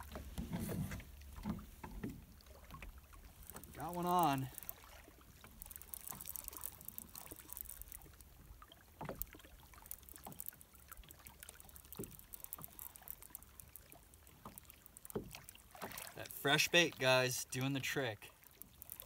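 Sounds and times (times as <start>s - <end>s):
waves lapping against boat hull: 0.0s - 19.0s.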